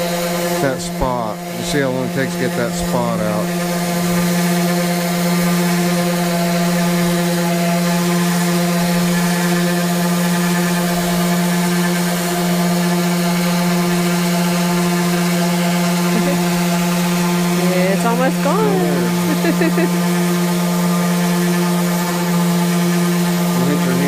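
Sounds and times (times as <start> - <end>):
electric sander running: 0.0 - 24.0.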